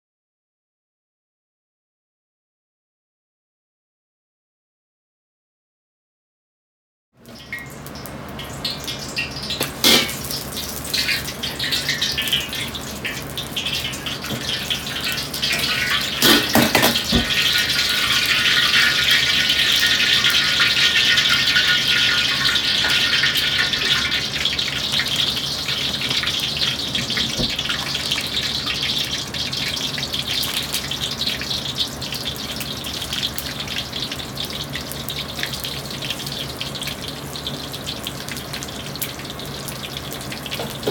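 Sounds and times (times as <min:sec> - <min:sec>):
chicken deep-frying in oil: 0:07.2 - 0:40.9
gas burner hum: 0:07.2 - 0:40.9.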